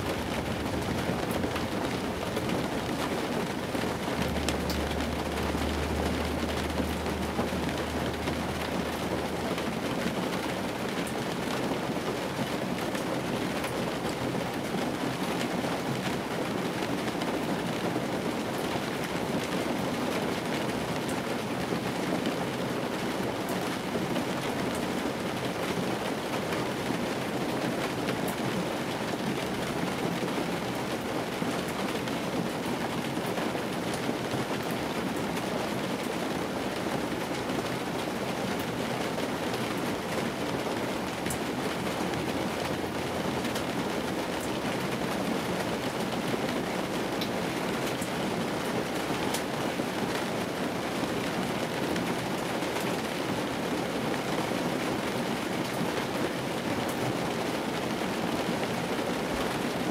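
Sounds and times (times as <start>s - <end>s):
rain on car roof: 0.0s - 59.9s.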